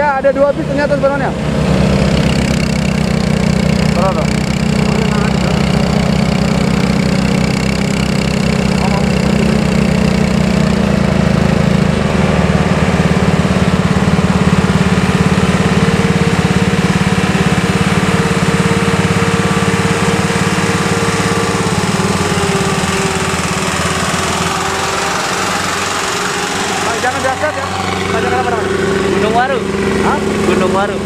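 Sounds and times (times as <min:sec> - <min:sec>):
bus diesel engine rumbling: 0:00.0 - 0:31.0
faint engine whine: 0:00.0 - 0:31.0.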